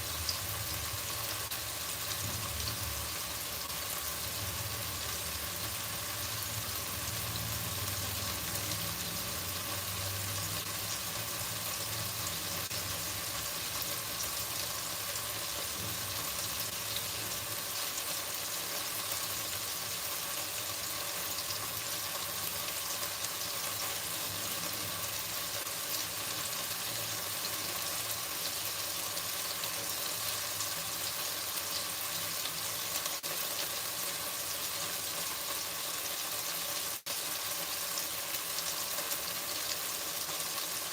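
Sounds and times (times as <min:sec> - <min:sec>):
chicken sizzling in a pan: 0:00.0 - 0:40.9.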